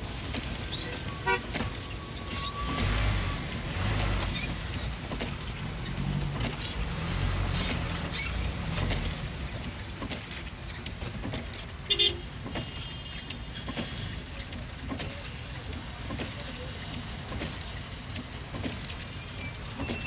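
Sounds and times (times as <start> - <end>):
car engines rumbling in traffic: 0.0 - 20.0.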